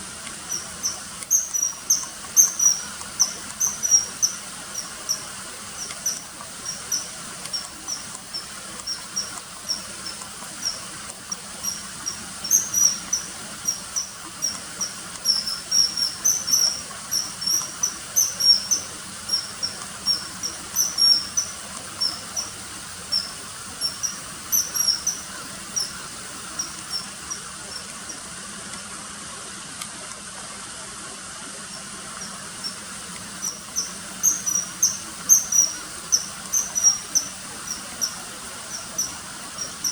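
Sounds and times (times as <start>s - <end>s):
kingfisher calling: 0.0s - 28.2s, 31.7s - 39.9s
faint steady hiss: 0.0s - 39.9s.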